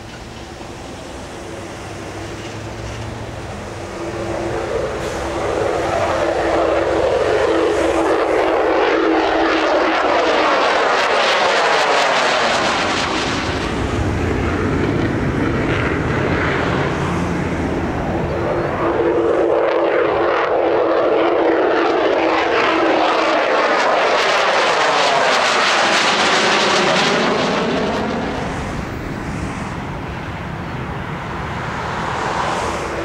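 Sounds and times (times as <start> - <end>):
fighter jet roar: 0.0 - 33.0.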